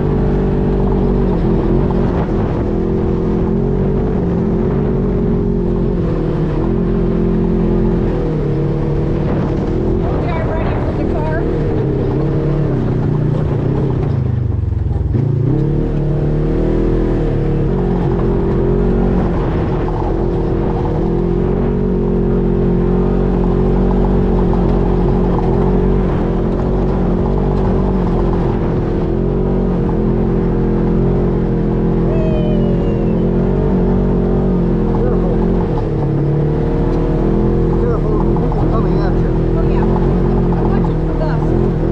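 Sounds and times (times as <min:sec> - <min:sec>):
utility vehicle engine running: 0:00.0 - 0:41.9.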